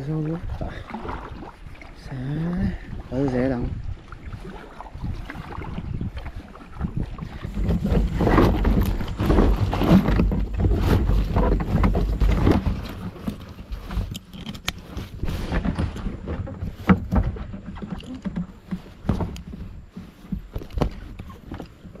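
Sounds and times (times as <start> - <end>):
water splashing around kayak: 0.0 - 22.0
wind buffeting microphone: 0.0 - 22.0.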